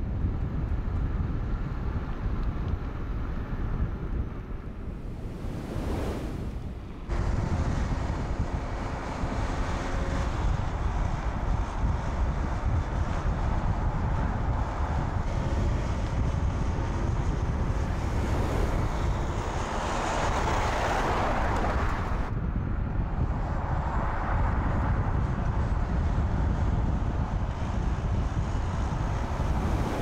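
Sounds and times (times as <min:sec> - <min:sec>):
car tyre and engine noise: 0:00.0 - 0:30.0
wind rumbling on microphone: 0:00.0 - 0:30.0.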